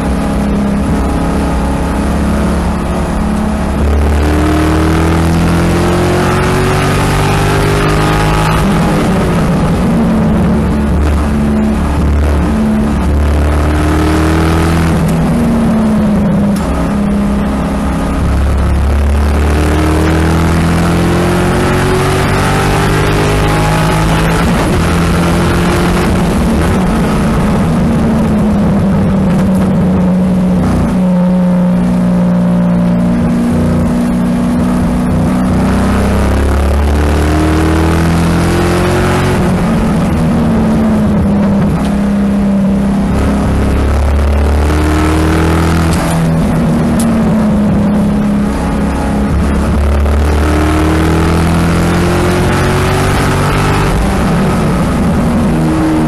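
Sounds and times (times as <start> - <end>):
car engine accelerating and slowing: 0.0 - 56.0.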